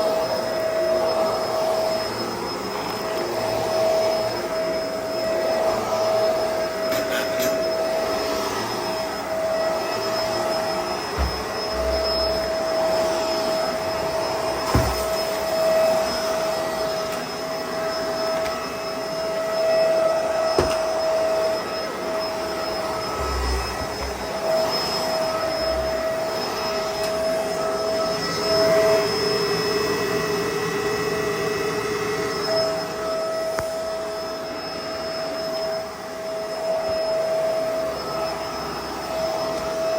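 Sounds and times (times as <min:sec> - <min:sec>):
vacuum motor whine: 0:00.0 - 0:39.9.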